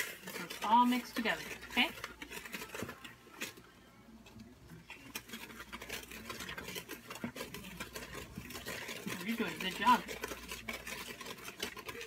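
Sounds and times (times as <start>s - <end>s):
utensil scraping a mixing bowl: 0.0s - 12.0s.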